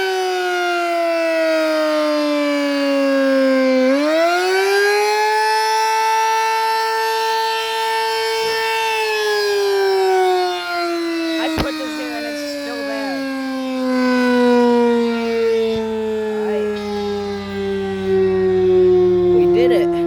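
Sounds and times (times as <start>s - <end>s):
warning siren wailing: 0.0s - 20.0s.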